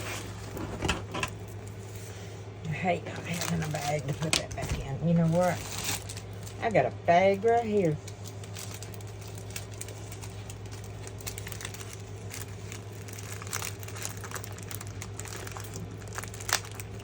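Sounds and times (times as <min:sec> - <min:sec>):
steady low hum: 0:00.0 - 0:17.0
plastic bag crinkling: 0:02.7 - 0:17.0.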